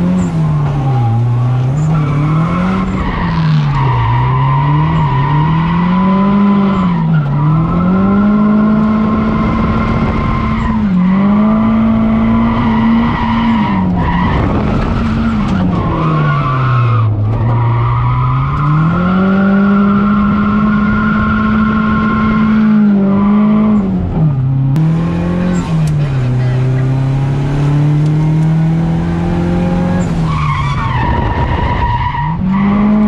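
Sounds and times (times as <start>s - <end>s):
tires squealing: 0.0s - 23.9s, 25.4s - 33.0s
car engine at high revs: 0.0s - 33.0s.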